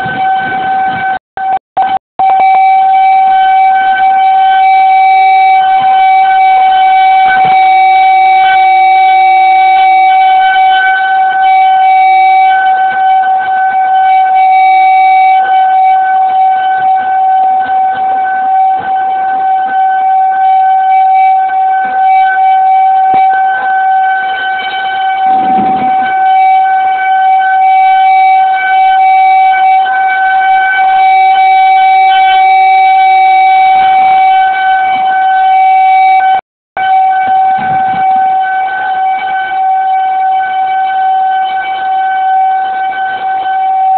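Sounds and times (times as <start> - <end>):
warning siren steady tone: 0.0 - 43.9.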